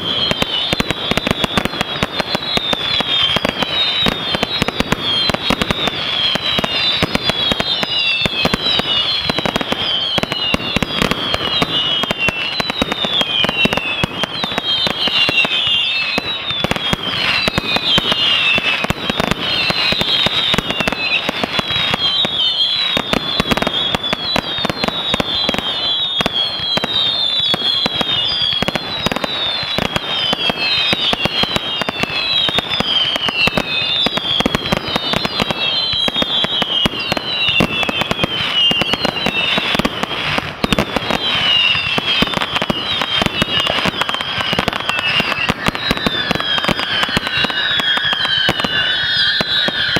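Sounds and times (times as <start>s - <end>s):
falling firework whistles: 0.0s - 49.9s
firework bangs and crackling: 0.0s - 49.9s.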